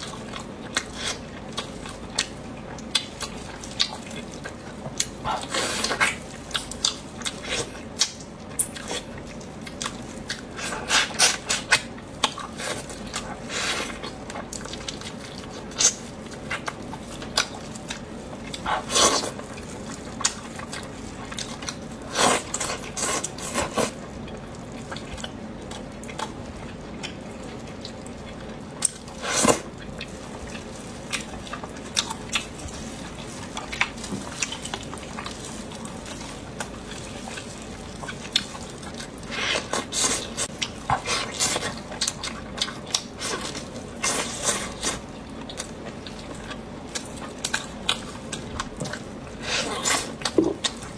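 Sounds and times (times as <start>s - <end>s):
wet chewing: 0.0s - 50.9s.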